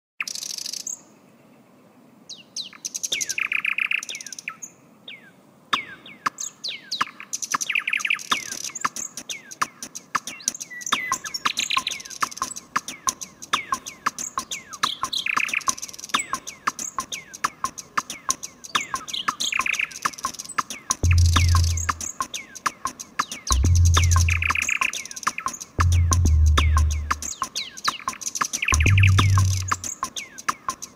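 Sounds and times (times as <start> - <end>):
songbird singing: 0.2 - 30.9.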